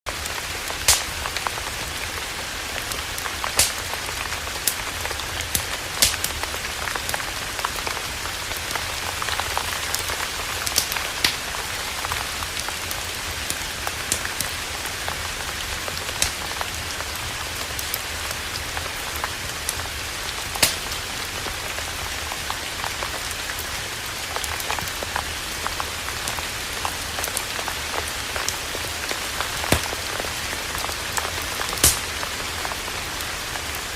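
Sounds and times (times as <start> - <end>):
campfire crackling and popping: 0.1 - 33.9.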